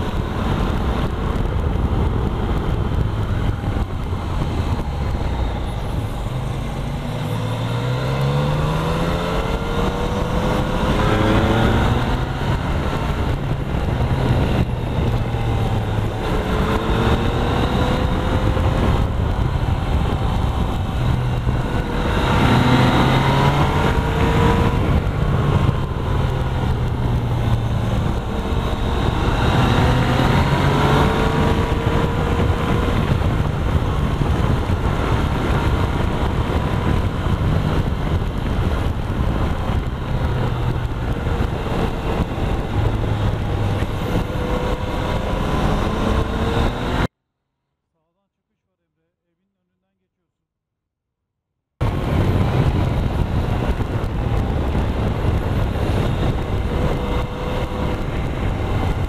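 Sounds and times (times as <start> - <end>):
motorcycle engine accelerating: 0.0 - 47.2, 51.8 - 59.0
wind and road noise: 0.0 - 47.2, 51.8 - 59.0.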